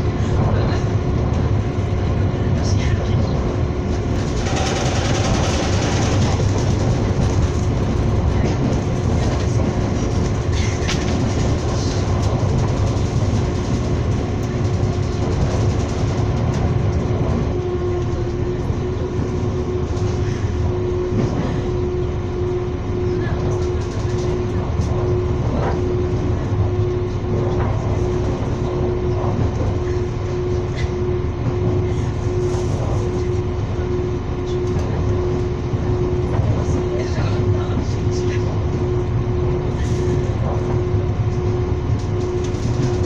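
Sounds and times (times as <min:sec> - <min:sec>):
steady hum: 0:00.0 - 0:43.0
train wheels rumbling on rails: 0:00.0 - 0:43.0.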